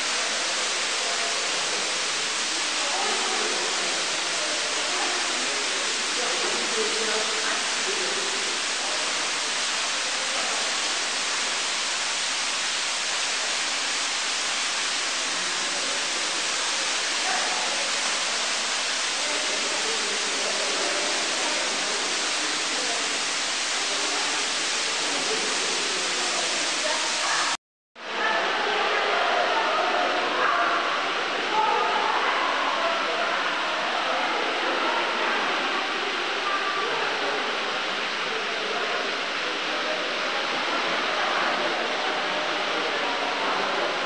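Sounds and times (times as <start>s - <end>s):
waterfall rushing: 0.0s - 27.6s, 28.4s - 44.0s
faint voices: 0.0s - 44.0s.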